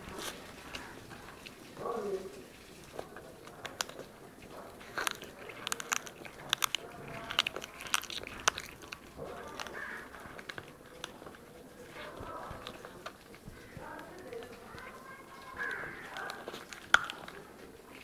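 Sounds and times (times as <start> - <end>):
cat chewing and crunching bones: 0.0 - 18.0.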